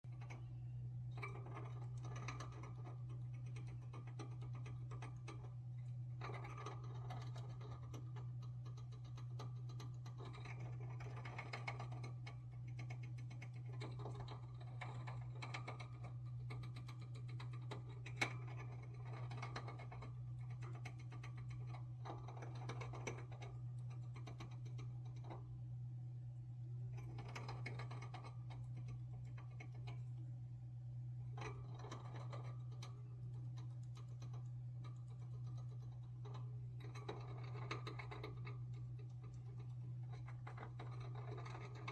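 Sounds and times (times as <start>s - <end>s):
hamster gnawing: 0.0s - 41.9s
steady low hum: 0.0s - 41.9s.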